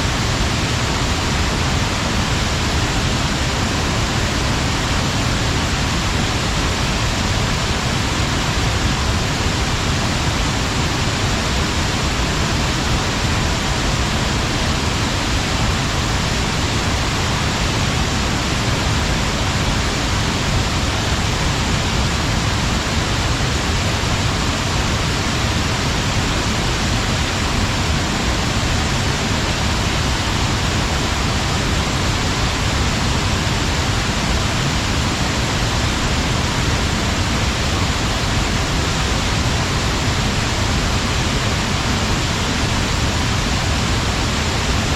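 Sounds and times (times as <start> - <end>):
waterfall rushing roar: 0.0 - 44.9.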